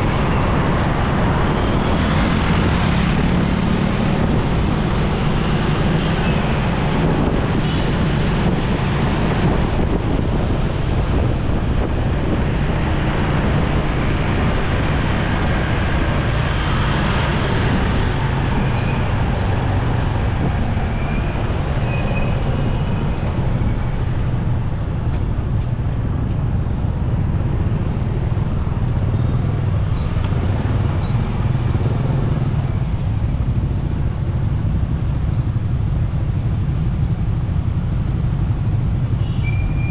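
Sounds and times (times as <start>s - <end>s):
road noise: 0.0s - 39.9s
surrounding traffic: 0.0s - 39.9s.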